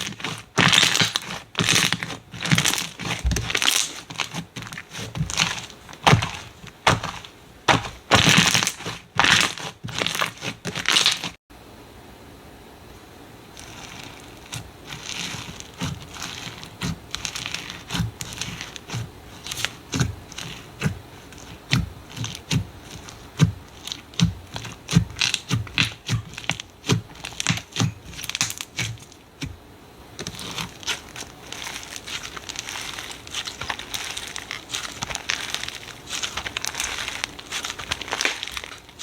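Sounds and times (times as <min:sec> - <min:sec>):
slime popping and crackling: 0:00.0 - 0:11.4, 0:13.6 - 0:29.3, 0:30.2 - 0:39.0.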